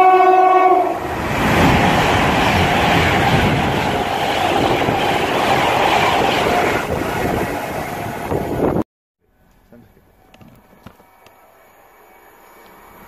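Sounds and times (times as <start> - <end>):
train approaching: 0.0 - 8.8, 9.4 - 13.0
train passing at speed: 0.0 - 8.8, 10.2 - 13.0.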